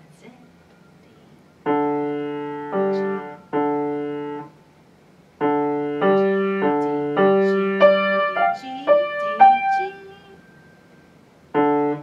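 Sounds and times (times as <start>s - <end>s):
low piano notes: 0.4s - 4.6s, 5.4s - 12.0s.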